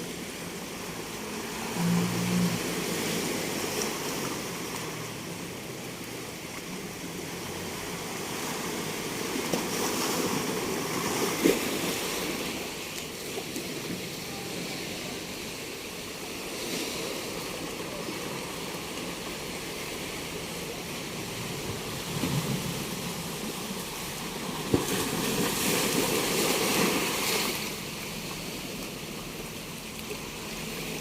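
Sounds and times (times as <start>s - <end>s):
waves washing onto beach: 0.0s - 31.0s.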